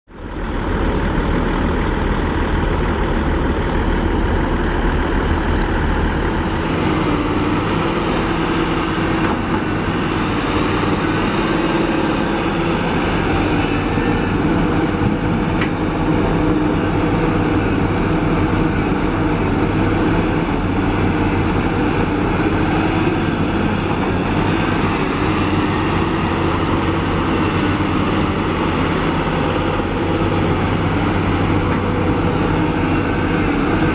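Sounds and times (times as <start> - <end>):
excavator diesel engine working: 0.1 - 33.9.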